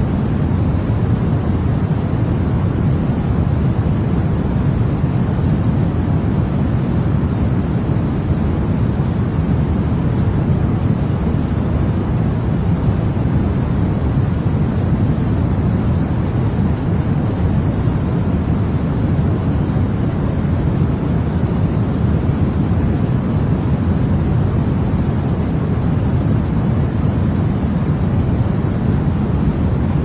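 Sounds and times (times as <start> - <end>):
deep rushing white noise: 0.0 - 30.0.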